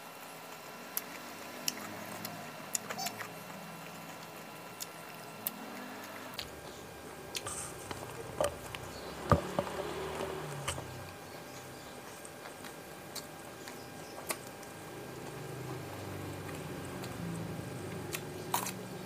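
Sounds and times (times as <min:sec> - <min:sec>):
chewing sounds: 0:00.5 - 0:19.0.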